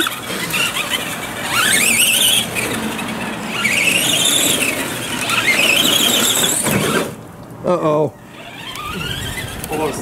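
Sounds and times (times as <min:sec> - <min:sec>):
rc truck motors whining: 0:00.0 - 0:07.2, 0:08.2 - 0:10.0.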